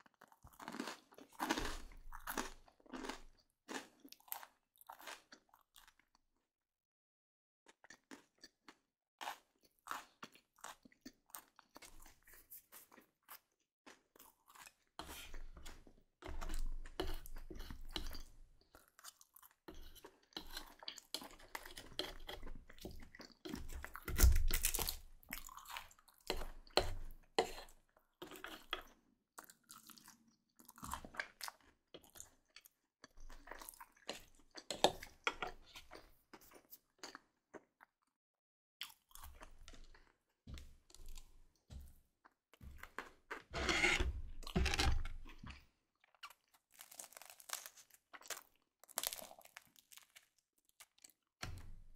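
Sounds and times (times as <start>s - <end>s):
chewing and crunching food: 0.0s - 6.4s, 7.7s - 38.2s, 38.8s - 51.9s.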